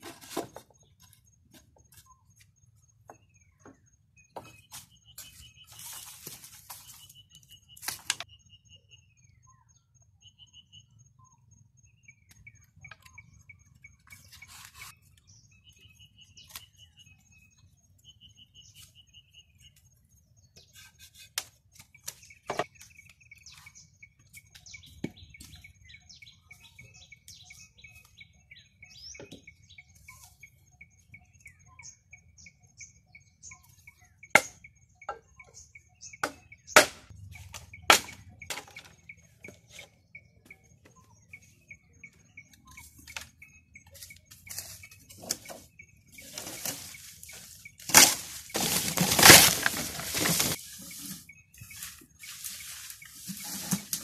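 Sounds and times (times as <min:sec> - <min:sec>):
small birds chirping: 0:00.2 - 0:54.0.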